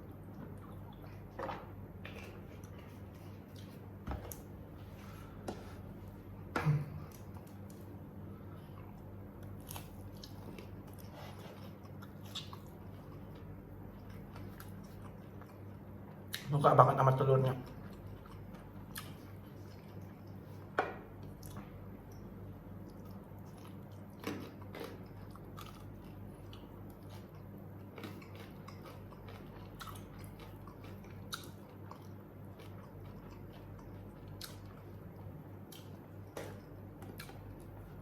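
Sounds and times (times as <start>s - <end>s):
person chewing food: 0.0s - 16.5s, 17.6s - 38.0s
steady low hum: 0.0s - 38.0s.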